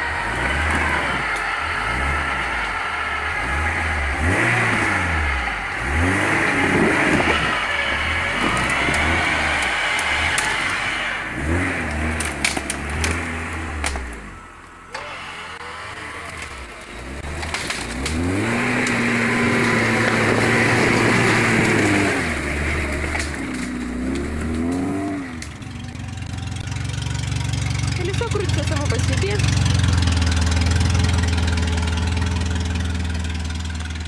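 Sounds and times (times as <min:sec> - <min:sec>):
engine idling: 0:00.0 - 0:34.0
suv engine revving: 0:00.0 - 0:34.0.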